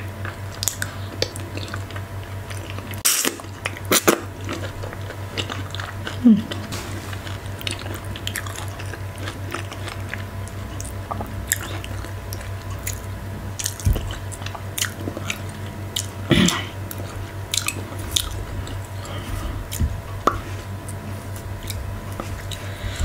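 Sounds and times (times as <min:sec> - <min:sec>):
low electrical hum: 0:00.0 - 0:23.0
wet chewing: 0:00.1 - 0:23.0.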